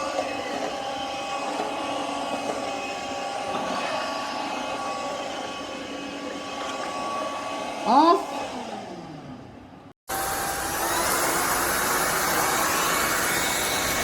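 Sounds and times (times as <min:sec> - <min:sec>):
stick vacuum running: 0:00.0 - 0:14.0.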